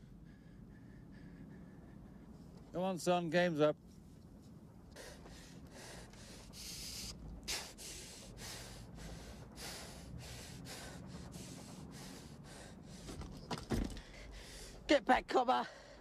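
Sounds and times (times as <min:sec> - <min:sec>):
man breathing fast and hard: 0:00.0 - 0:02.7, 0:04.8 - 0:14.9, 0:15.7 - 0:16.0.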